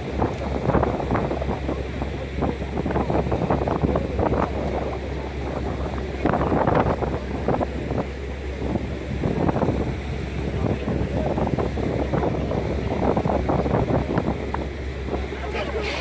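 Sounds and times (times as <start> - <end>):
boat engine droning: 0.0 - 16.0
wind buffeting microphone: 0.0 - 16.0.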